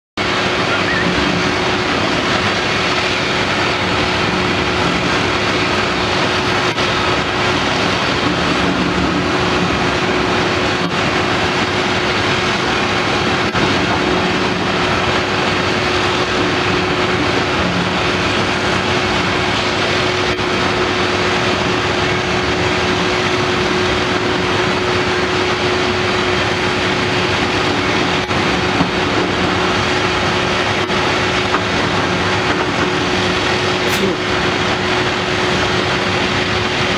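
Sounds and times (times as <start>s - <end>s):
excavator diesel engine running: 0.2s - 36.9s.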